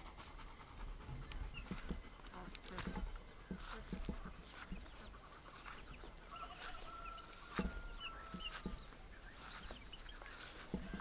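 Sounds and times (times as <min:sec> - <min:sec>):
footsteps on grass: 0:00.0 - 0:11.0
chicks peeping: 0:00.2 - 0:11.0.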